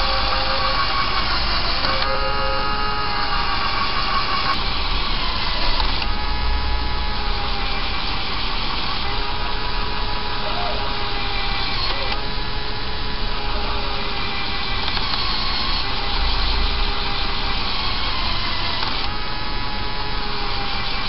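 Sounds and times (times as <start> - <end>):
electric motor whirring gears: 0.0 - 21.0.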